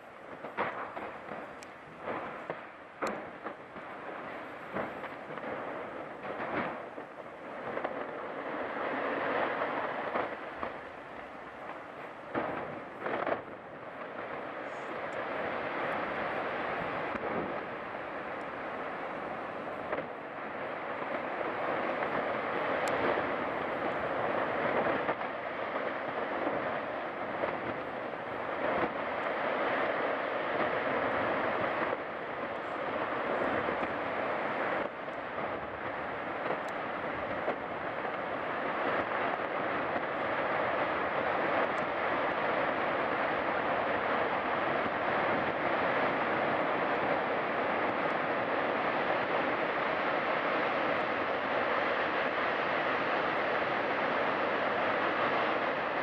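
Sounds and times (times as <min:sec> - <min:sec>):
rumble of falling ice and water: 0:00.0 - 0:56.0.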